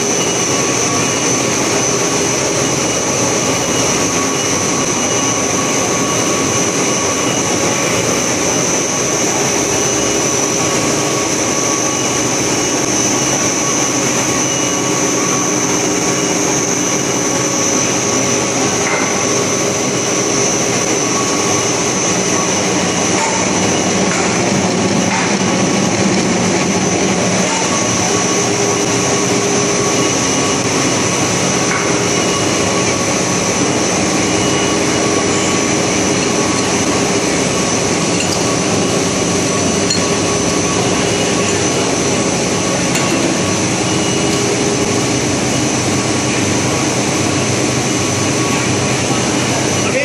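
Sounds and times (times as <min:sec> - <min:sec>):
motor whines: 0:00.0 - 0:49.6
machinery drone: 0:00.0 - 0:50.0.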